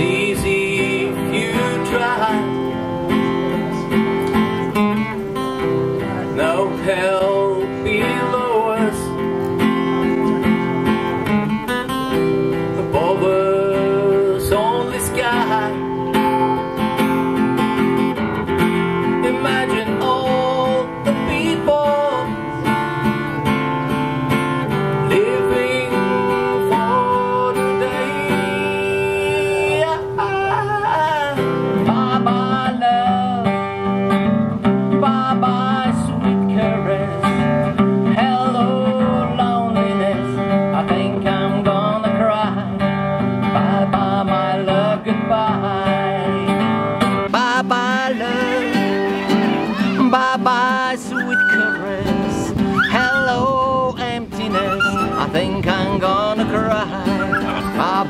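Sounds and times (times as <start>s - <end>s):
acoustic guitar strummed chords: 0.0s - 58.0s
man singing: 0.0s - 58.0s.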